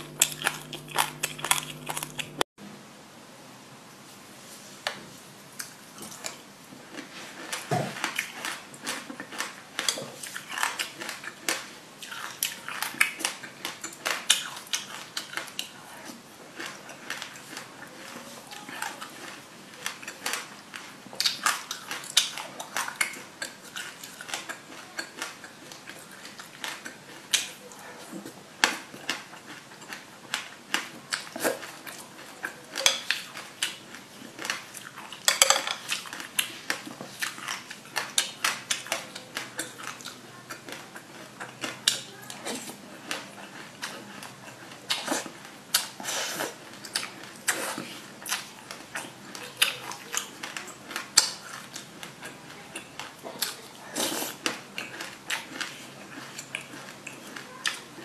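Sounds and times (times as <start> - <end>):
wet crackly chewing: 0.0 - 2.5, 5.6 - 58.0.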